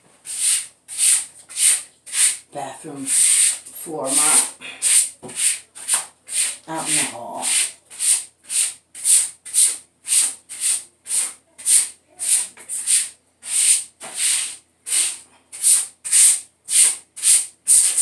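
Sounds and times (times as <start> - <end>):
mop scrubbing tile floor: 0.0 - 18.0.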